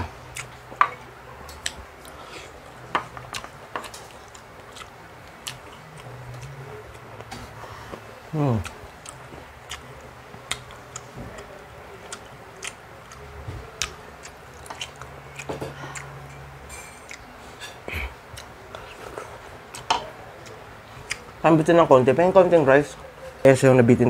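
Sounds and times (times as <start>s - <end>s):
person chewing food: 0.0s - 21.4s.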